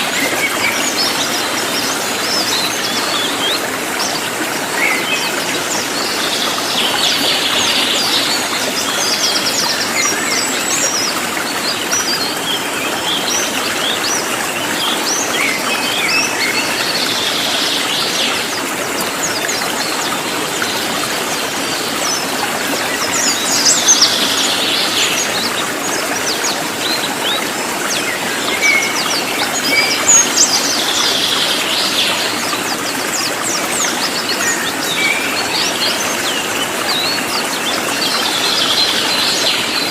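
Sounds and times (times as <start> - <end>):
running stream water: 0.0 - 39.9.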